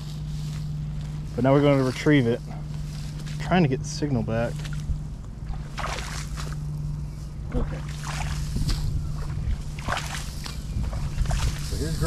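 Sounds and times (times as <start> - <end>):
footsteps through dry grass: 0.0 - 12.0
low rumble: 0.0 - 12.0.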